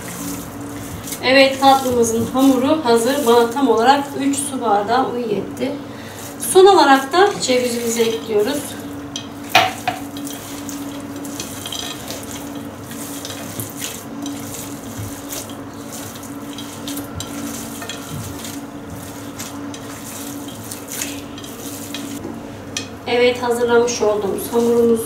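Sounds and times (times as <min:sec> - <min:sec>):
hands squelching wet dough: 0:00.0 - 0:04.9, 0:06.0 - 0:22.2, 0:24.2 - 0:25.0.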